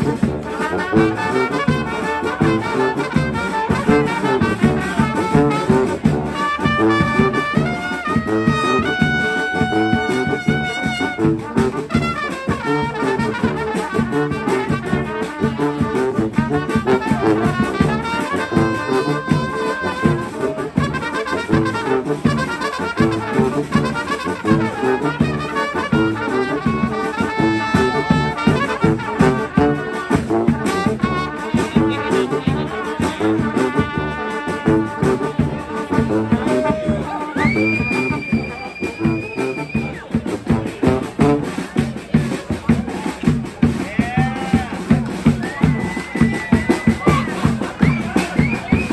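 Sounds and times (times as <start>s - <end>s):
street band horns playing: 0.0s - 48.9s.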